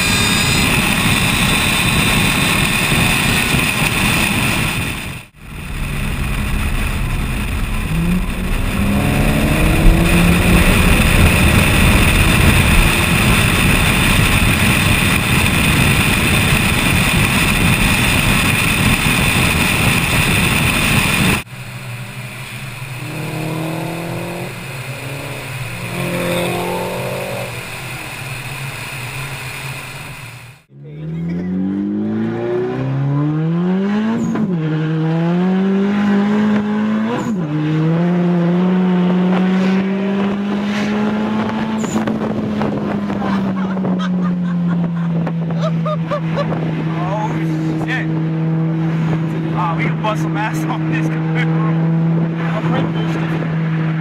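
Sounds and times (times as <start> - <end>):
car engine accelerating: 0.0 - 54.0
wind and road noise: 0.0 - 54.0.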